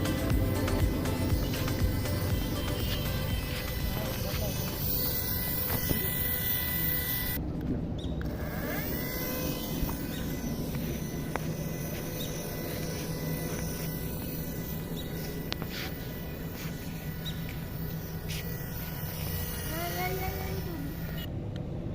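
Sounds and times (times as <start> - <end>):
toy helicopter motor humming: 0.0 - 7.4, 8.0 - 21.3.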